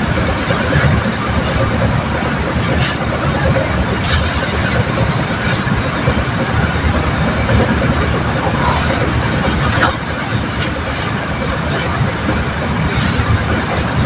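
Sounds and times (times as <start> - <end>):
loud low rumbling: 0.0 - 14.0.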